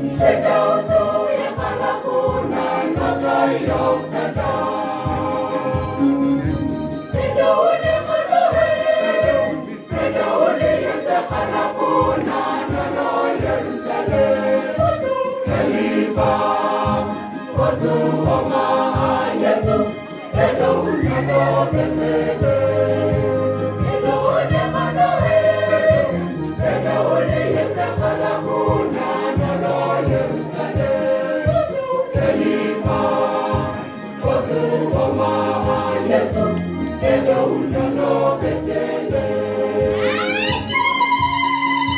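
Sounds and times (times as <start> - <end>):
steady low beat: 0.0 - 40.0
choir singing a carol: 0.0 - 41.9.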